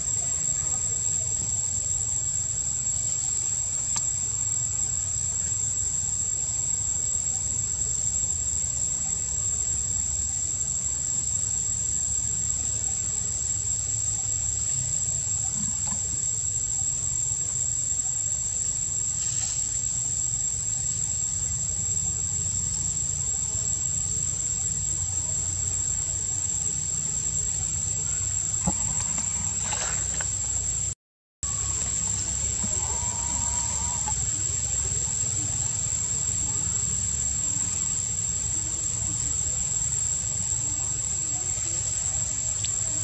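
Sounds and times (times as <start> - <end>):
high-pitched insect chorus: 0.0 - 43.0.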